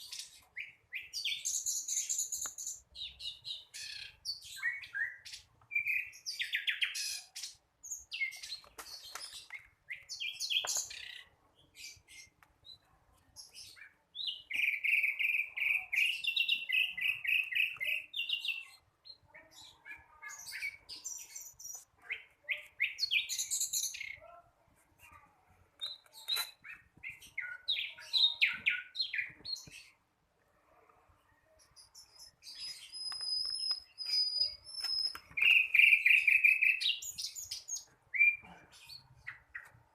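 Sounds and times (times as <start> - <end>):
bird chirping and warbling: 0.0 - 24.4, 25.8 - 30.0, 31.2 - 39.9.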